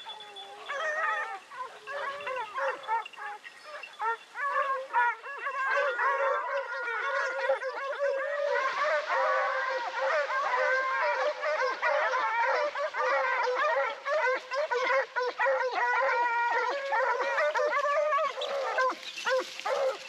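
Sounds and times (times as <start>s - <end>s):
hounds baying: 0.0s - 20.0s.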